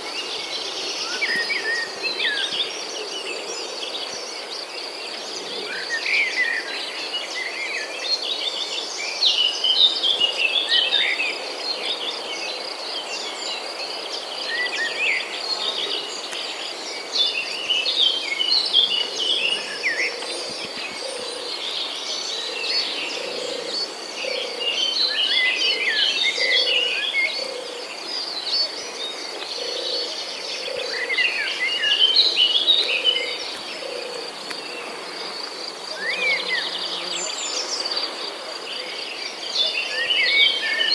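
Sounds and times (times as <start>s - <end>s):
high insect drone: 0.0s - 40.9s
songbirds chirping and singing: 0.0s - 40.9s.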